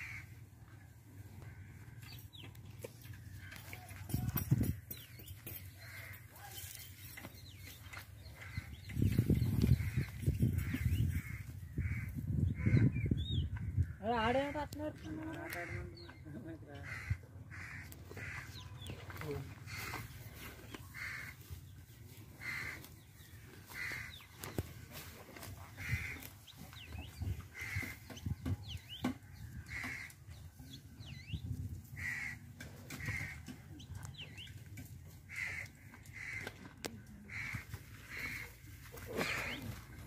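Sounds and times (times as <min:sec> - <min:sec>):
birds calling: 0:00.0 - 0:40.0.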